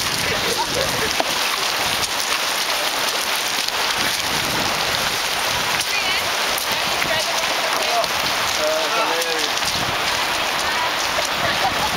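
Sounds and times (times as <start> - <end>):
white water rushing through rapid: 0.0 - 11.9.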